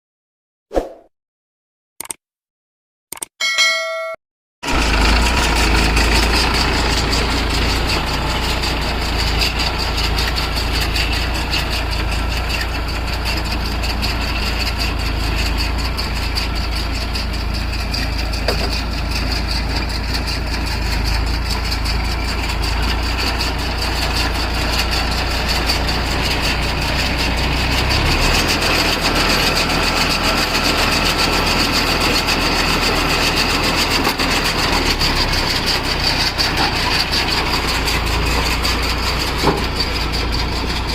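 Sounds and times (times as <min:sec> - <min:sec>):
tractor diesel engine droning: 0:03.5 - 0:40.9.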